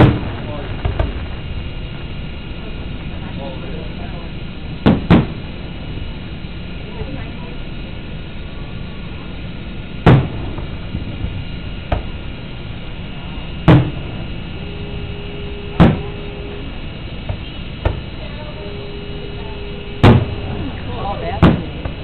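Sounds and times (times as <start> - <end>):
faint fireworks bangs: 0.0 - 22.0
fireworks booming: 0.0 - 22.0.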